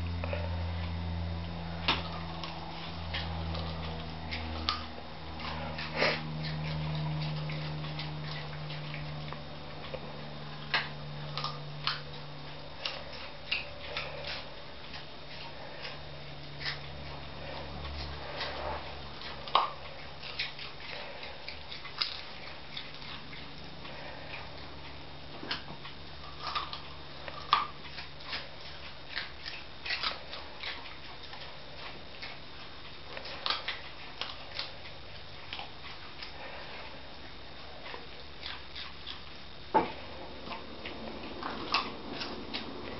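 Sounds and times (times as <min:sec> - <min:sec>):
dogs crunching carrots: 0:00.0 - 0:42.9.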